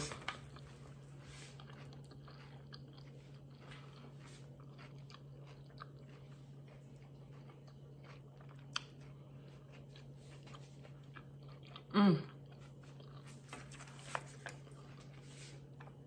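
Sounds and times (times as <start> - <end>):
person chewing lettuce: 0.0 - 16.0
steady low hum: 0.0 - 16.0.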